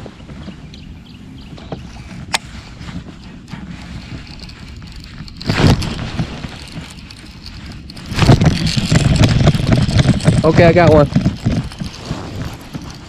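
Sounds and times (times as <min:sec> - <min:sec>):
low rumbling wind: 0:00.0 - 0:13.0
microphone handling noise: 0:00.0 - 0:13.0.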